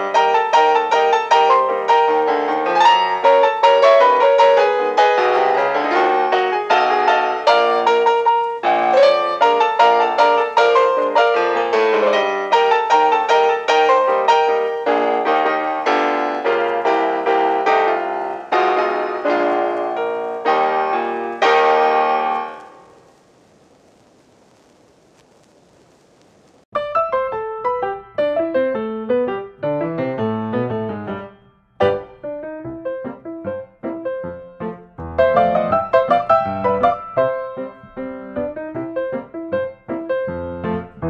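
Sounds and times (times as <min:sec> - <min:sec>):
piano music: 0:00.0 - 0:23.0, 0:26.7 - 0:41.0.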